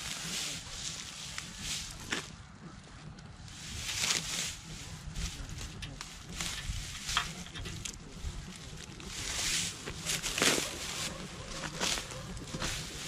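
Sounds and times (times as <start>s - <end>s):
boots rustling in dry straw: 0.0s - 13.0s.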